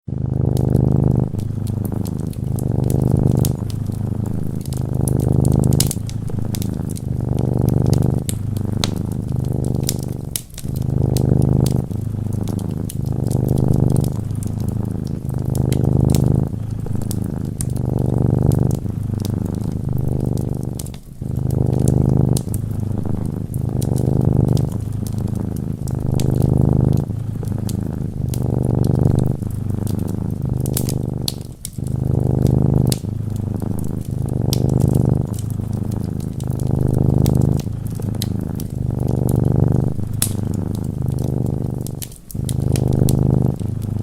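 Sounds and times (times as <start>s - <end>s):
cat purring: 0.0s - 44.0s
wood fire crackling: 0.0s - 44.0s.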